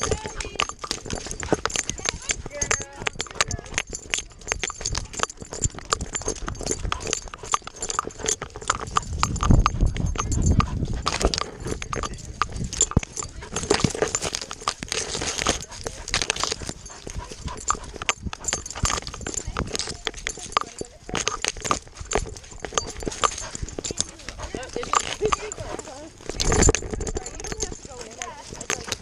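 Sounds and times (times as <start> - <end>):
paws on dry grass and mud: 0.0 - 29.0.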